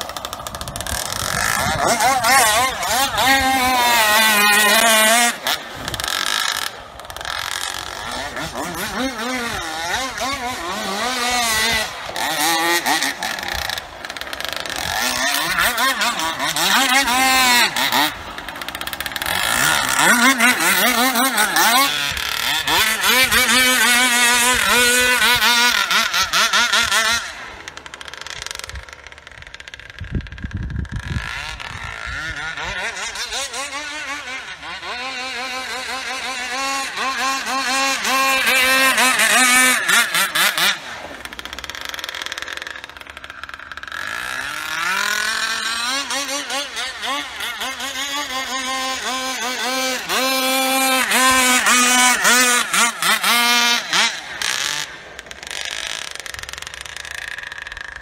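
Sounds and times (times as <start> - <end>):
model boat engine at high revs: 0.0 - 58.0.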